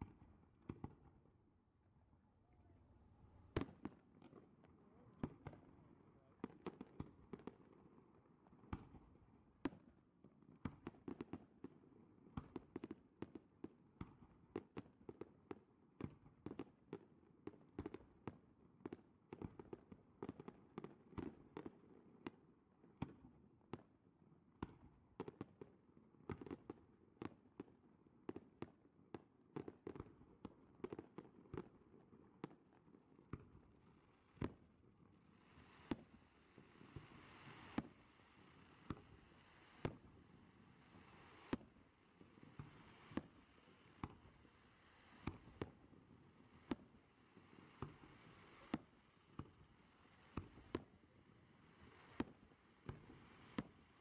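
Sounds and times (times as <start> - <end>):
fireworks bangs and crackles: 3.6 - 4.6, 5.2 - 54.0.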